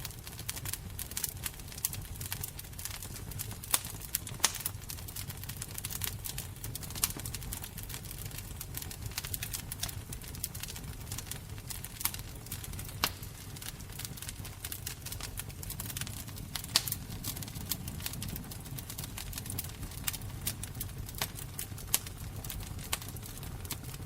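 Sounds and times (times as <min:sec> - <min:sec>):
fire crackling: 0:00.0 - 0:24.0
fire popping: 0:00.0 - 0:24.0.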